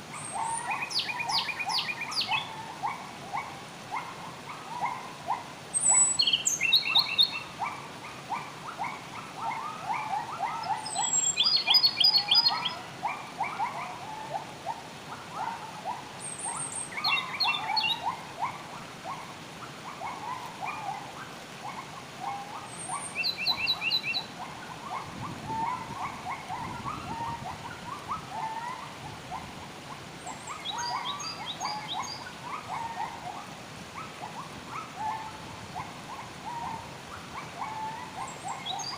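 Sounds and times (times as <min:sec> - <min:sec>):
chatter of bird calls: 0:00.1 - 0:38.9.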